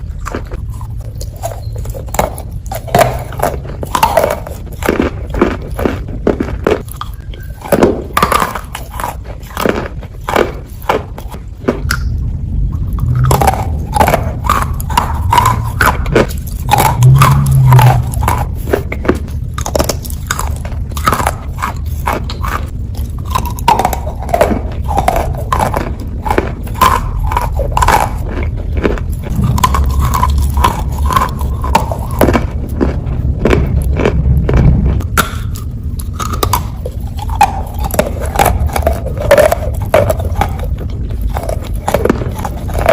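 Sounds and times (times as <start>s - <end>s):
chewing wet clay: 0.0s - 42.9s
low rumble: 0.0s - 42.9s.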